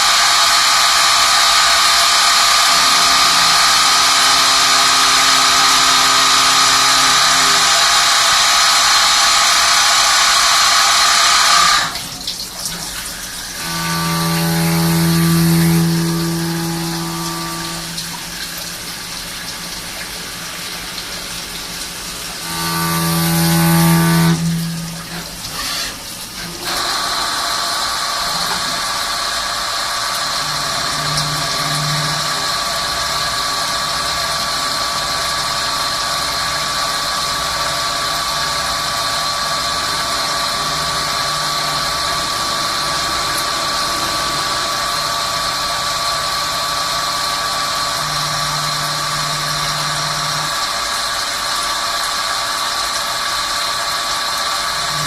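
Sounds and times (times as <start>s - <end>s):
high-pitched whining tones: 0.0s - 12.0s, 13.3s - 19.8s, 22.2s - 26.8s, 30.1s - 51.3s, 54.7s - 55.0s
lathe machine hum: 0.0s - 55.0s.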